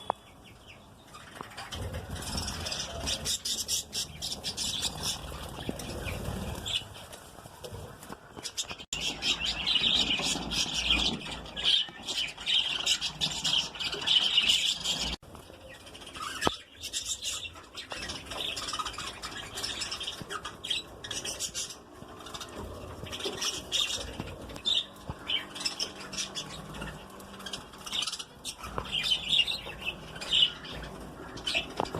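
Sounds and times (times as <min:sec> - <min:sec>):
lovebirds chattering and squawking: 0:00.0 - 0:07.2, 0:07.8 - 0:31.9.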